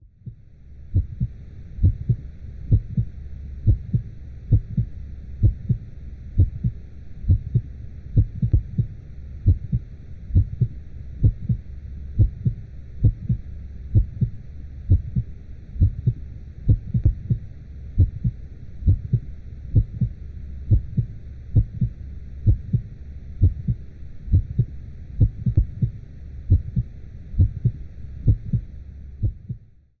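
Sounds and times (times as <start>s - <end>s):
heartbeat lub-dub: 0.1s - 29.7s.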